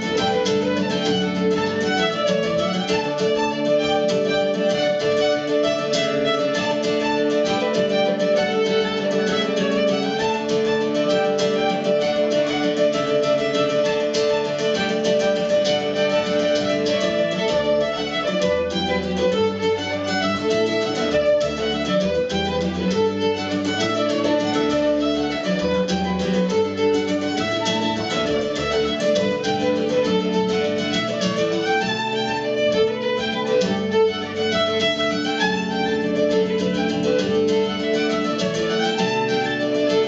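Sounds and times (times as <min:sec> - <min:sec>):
acoustic guitar accompaniment: 0:00.0 - 0:40.0
fiddles playing a folk tune: 0:00.0 - 0:40.0.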